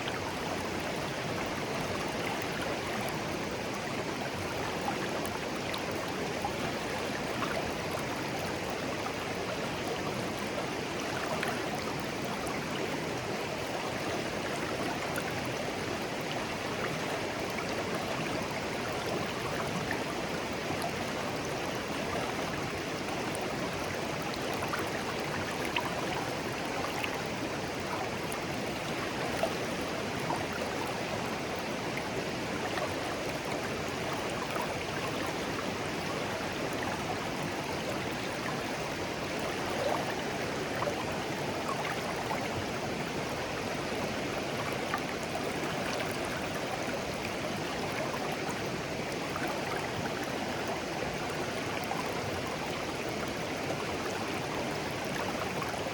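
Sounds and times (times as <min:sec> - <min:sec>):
stream babbling over stones: 0:00.0 - 0:55.9
water gurgles and splashes: 0:00.0 - 0:55.9.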